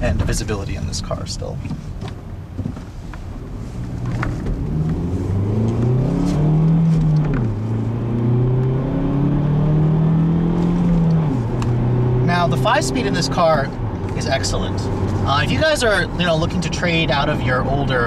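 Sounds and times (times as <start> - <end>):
car engine accelerating: 3.4 - 18.0.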